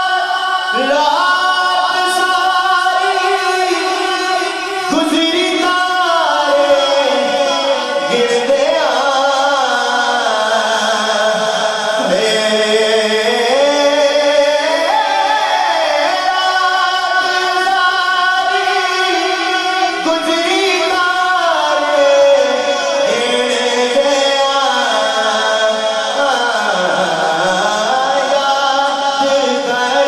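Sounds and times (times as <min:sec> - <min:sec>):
man singing a devotional hymn: 0:00.0 - 0:30.0.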